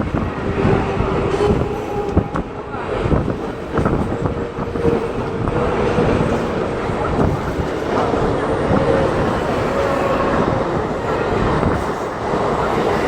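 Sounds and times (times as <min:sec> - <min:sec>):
steady humming tone: 0:00.0 - 0:13.0
train wheels rumbling and rattling: 0:00.0 - 0:13.0
wind buffeting microphone: 0:00.0 - 0:13.0.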